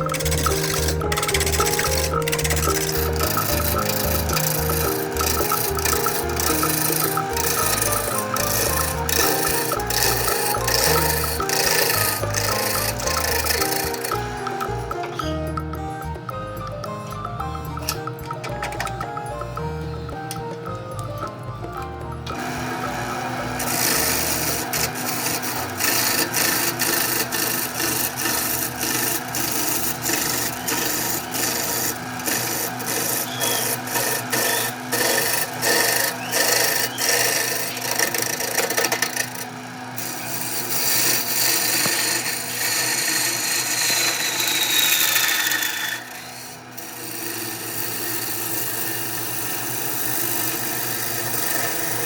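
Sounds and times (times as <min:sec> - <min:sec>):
tool rasping wood: 0:00.0 - 0:15.4, 0:22.4 - 0:52.0.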